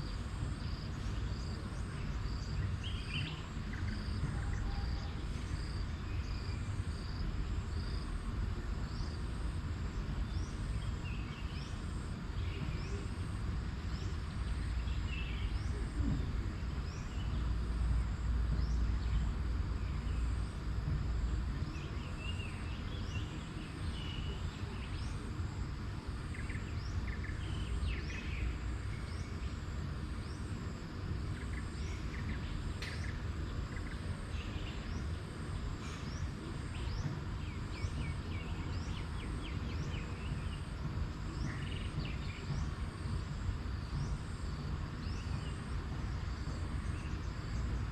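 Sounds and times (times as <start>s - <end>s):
steady low rumble: 0.0s - 47.9s.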